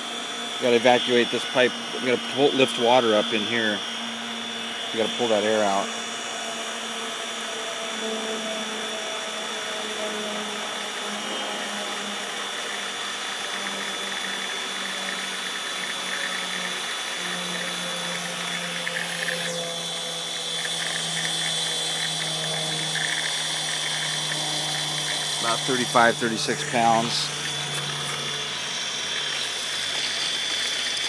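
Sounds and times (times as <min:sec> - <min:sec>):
pump motor humming and whining: 0:00.0 - 0:31.0.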